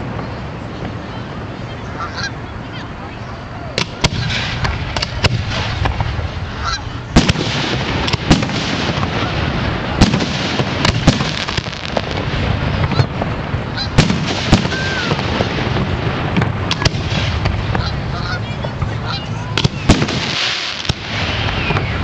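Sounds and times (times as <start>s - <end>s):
fireworks bangs: 3.7s - 22.0s.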